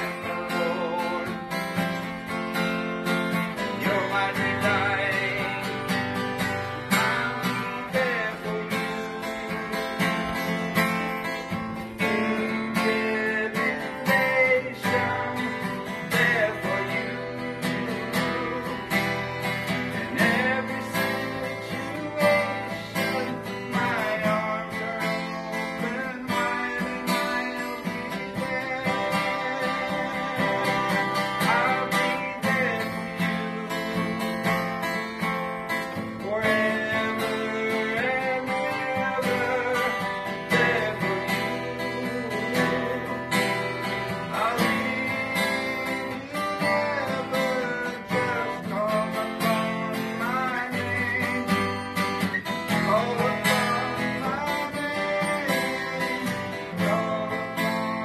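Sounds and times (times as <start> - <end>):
acoustic guitar playing chords: 0.0 - 58.0.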